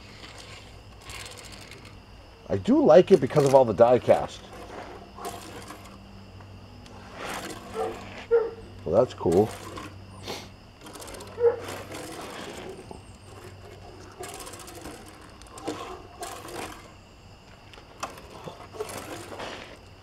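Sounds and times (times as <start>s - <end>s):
toy car wheels whirring on track: 0.0s - 6.0s, 6.8s - 17.0s, 17.7s - 19.9s.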